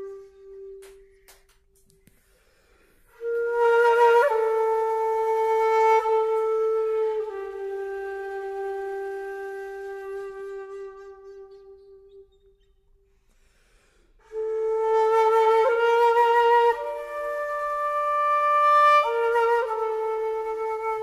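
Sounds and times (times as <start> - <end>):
flute holding breathy notes: 0.0 - 1.3, 2.3 - 12.2, 14.2 - 21.0.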